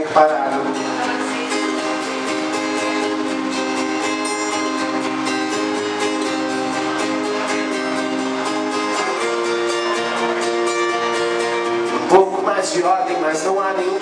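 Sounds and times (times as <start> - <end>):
strummed guitar chords: 0.0 - 14.0.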